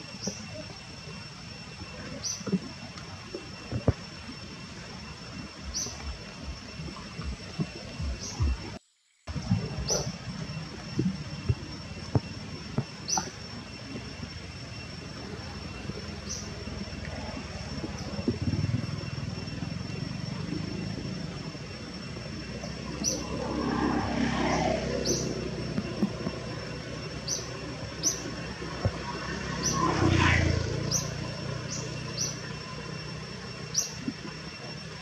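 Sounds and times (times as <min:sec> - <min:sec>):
low distant drone: 0:00.0 - 0:35.0.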